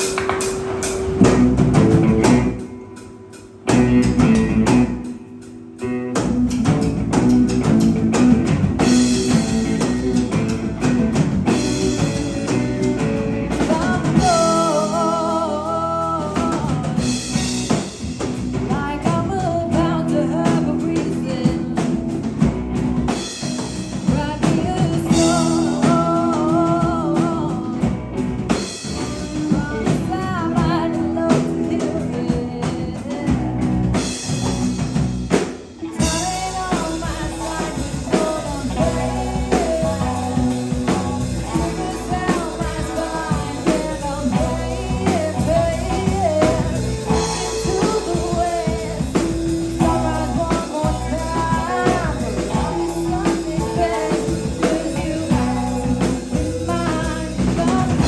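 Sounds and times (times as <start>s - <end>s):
live rock band playing: 0.0s - 58.0s
person singing lead vocal: 5.8s - 34.8s, 35.8s - 58.0s.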